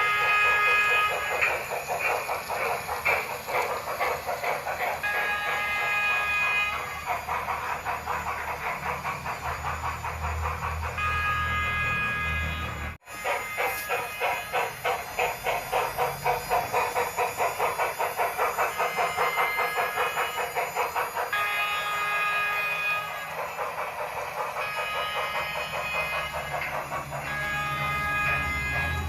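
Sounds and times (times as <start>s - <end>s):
train chime whistle: 0.0s - 8.5s, 10.0s - 29.0s
steam locomotive exhaust chuffs: 0.0s - 29.0s.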